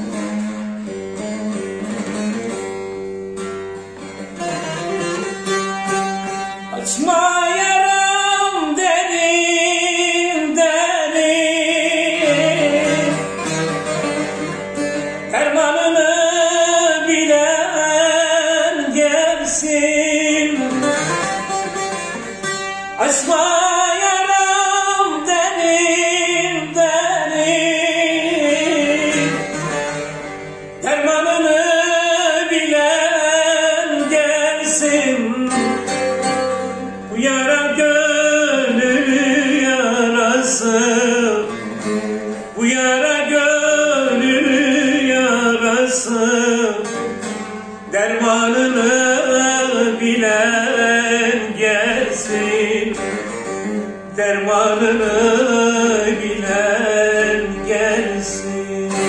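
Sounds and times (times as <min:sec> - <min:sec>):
plucked long-necked lute melody: 0:00.0 - 0:59.0
man singing ornamented phrases: 0:04.7 - 0:59.0.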